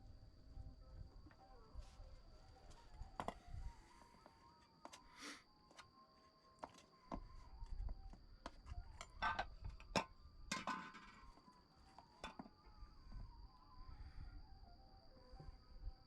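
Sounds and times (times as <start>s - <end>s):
cricket trill: 0.0s - 16.0s.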